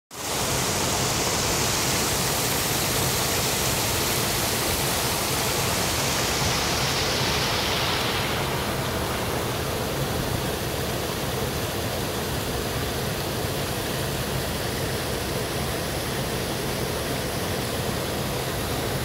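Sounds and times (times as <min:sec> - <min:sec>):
waterfall rushing over rocks: 0:00.1 - 0:19.0.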